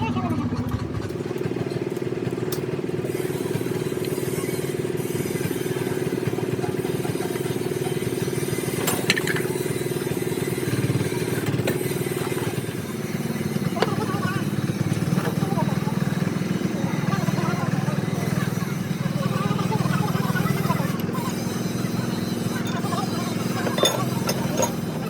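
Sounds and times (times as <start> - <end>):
motor running with fast pulse: 0.0 - 25.0.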